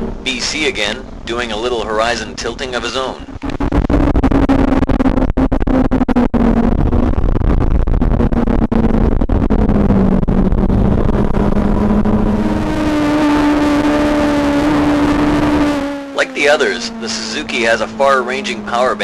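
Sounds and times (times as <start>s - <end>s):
motorcycle engine at speed: 0.0s - 19.0s.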